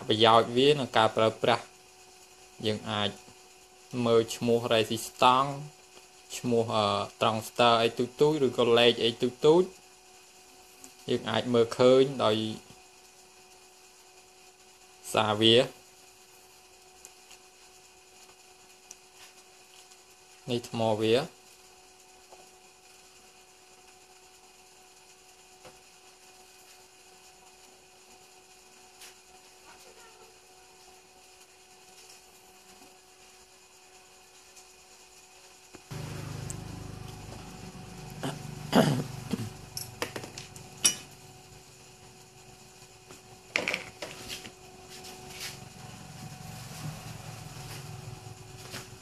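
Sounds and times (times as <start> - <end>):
low hum and hiss: 0.0 - 49.0.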